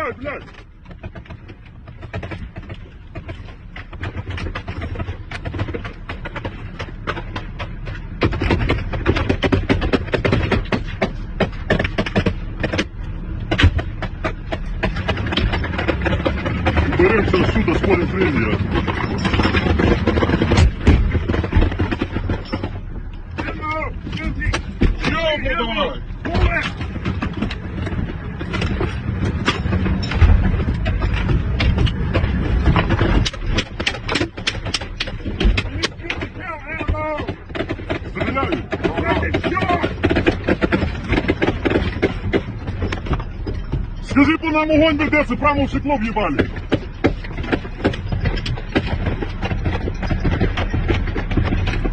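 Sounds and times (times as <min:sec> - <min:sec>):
military vehicle rumbling: 0:00.0 - 0:51.9
irregular clattering knocks: 0:00.2 - 0:51.9.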